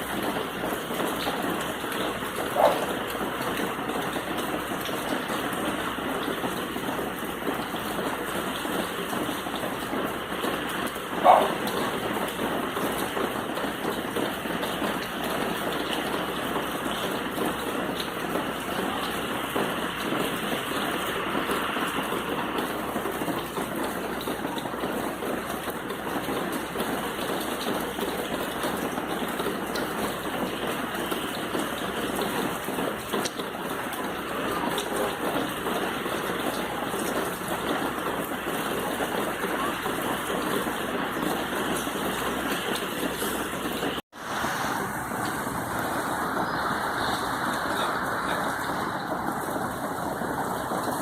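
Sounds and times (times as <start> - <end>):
steady rain: 0.0 - 51.0.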